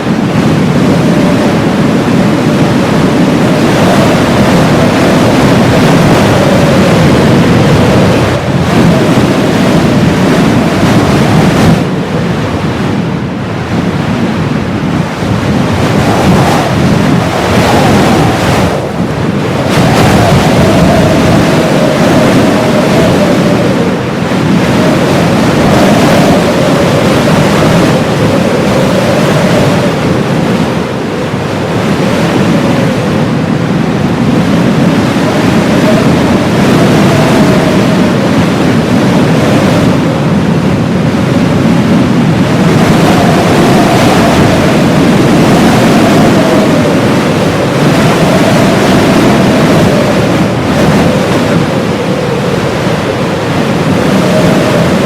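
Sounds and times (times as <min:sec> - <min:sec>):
howling blizzard wind: 0:00.0 - 0:55.0.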